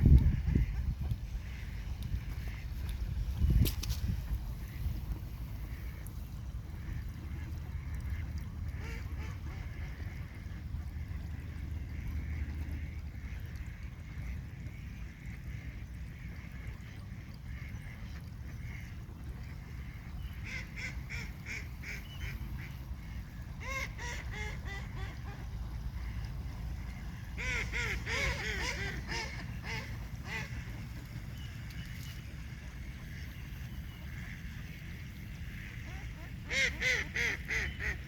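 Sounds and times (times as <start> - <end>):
steady low rumble: 0.0 - 36.5
waterfowl honking: 4.6 - 38.0.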